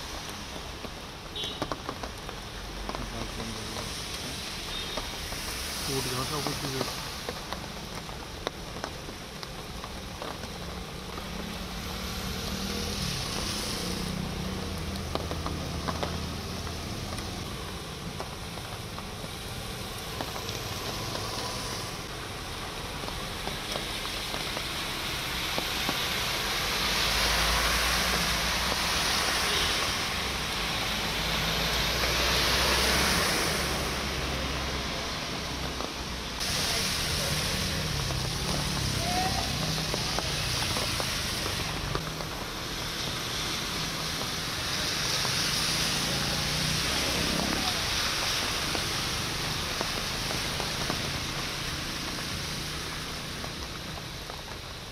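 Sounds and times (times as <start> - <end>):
traffic splashing through water: 0.0 - 54.9.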